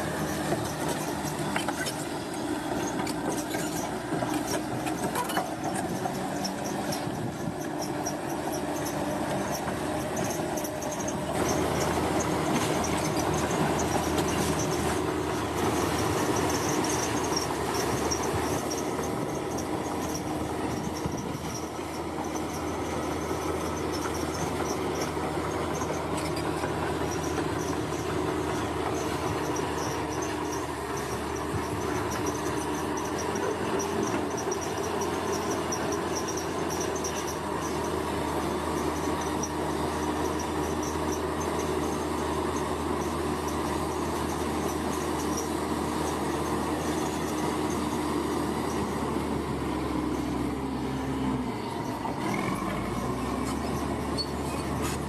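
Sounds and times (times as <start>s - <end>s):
heavy machinery engine running: 0.0s - 55.0s.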